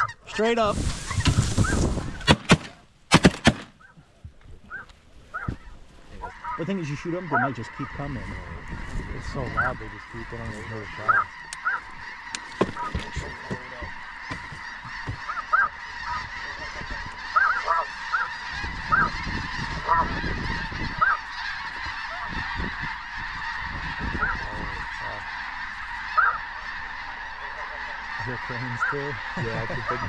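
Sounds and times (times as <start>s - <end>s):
flock of geese honking: 0.0s - 2.3s, 3.1s - 30.0s.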